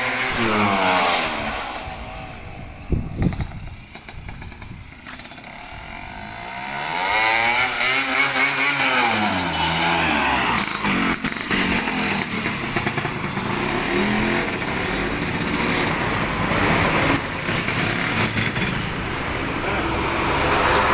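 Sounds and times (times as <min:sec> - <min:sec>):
scooter engine revving: 0:00.0 - 0:20.9.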